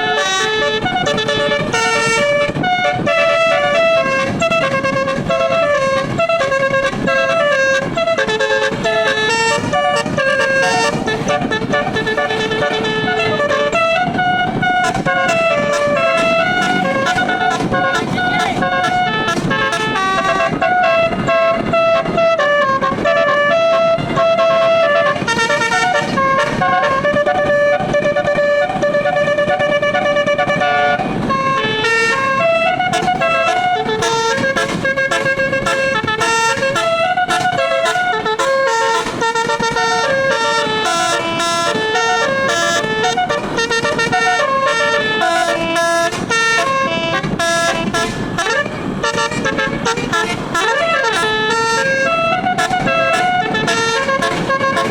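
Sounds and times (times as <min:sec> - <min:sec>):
musical bus air horn tune: 0:00.0 - 0:54.9.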